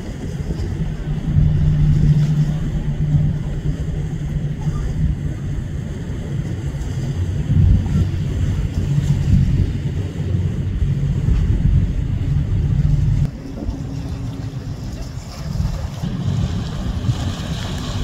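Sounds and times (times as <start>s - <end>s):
boat engines rumbling: 0.0s - 18.0s
wake washing: 0.0s - 18.0s
wind on microphone: 0.0s - 18.0s.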